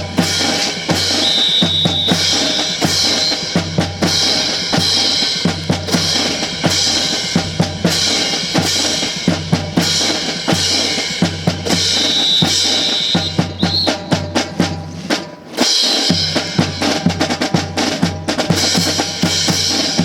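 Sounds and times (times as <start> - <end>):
snare and bass drumming: 0.0 - 20.0.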